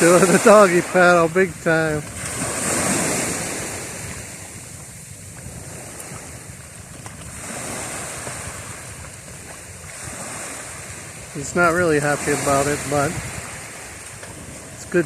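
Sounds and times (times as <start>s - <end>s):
ocean waves washing on shore: 0.0s - 15.0s
wind on microphone: 0.0s - 15.0s.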